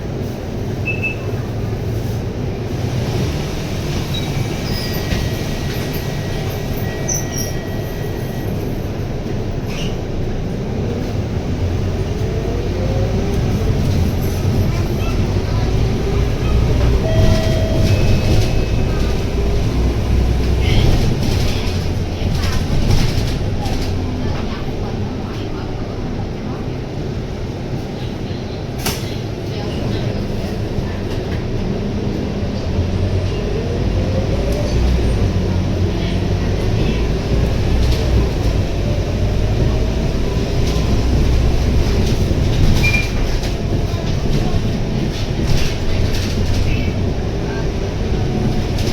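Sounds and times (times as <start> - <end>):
bus diesel engine rumbling: 0.0 - 48.9
road noise: 1.4 - 48.9.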